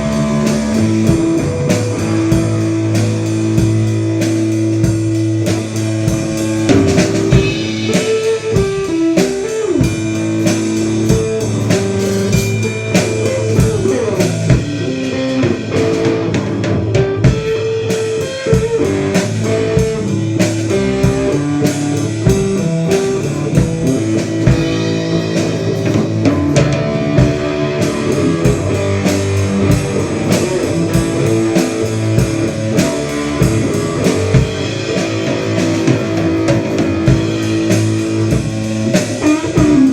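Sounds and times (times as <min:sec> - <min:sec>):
drum kit steady beat: 0:00.0 - 0:39.9
guitar: 0:00.0 - 0:39.9.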